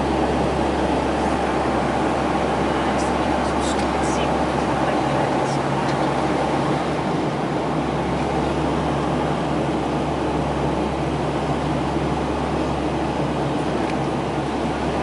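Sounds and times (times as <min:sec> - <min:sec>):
turboprop engine drone: 0:00.0 - 0:15.0.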